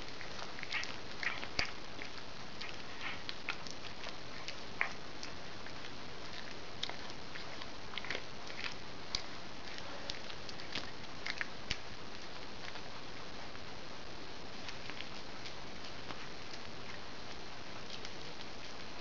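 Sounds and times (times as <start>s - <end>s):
cat chewing and crunching: 0.0s - 19.0s
steady background hiss: 0.0s - 19.0s.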